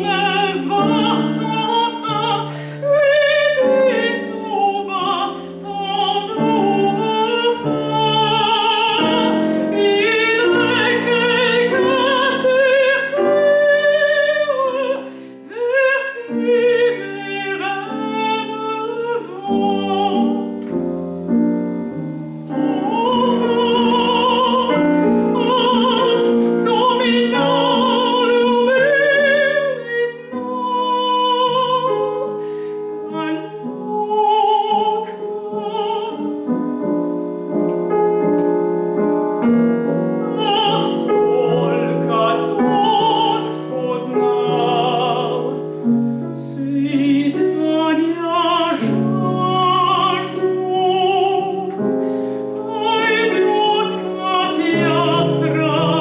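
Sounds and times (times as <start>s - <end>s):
woman singing operatically: 0.0s - 20.6s, 22.5s - 36.6s, 40.1s - 56.0s
grand piano: 0.0s - 56.0s.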